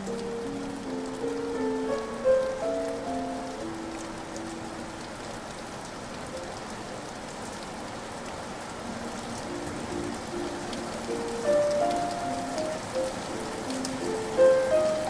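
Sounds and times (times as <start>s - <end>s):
soft piano notes: 0.0s - 7.9s, 8.7s - 15.0s
steady rain patter: 0.0s - 15.0s.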